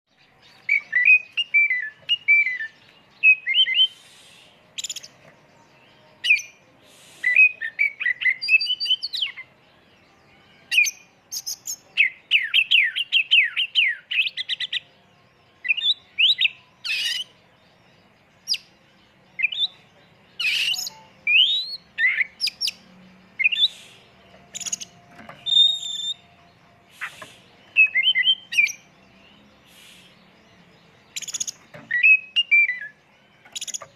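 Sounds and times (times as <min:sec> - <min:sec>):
bird singing whistles and chatter: 0:00.4 - 0:09.5, 0:10.7 - 0:14.9, 0:15.6 - 0:17.4, 0:19.4 - 0:33.9.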